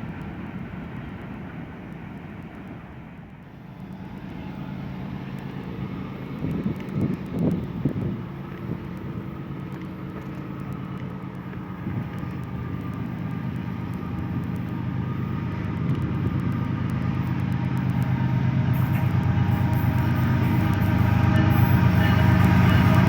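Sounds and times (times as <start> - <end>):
freight locomotive approaching: 0.0 - 23.0.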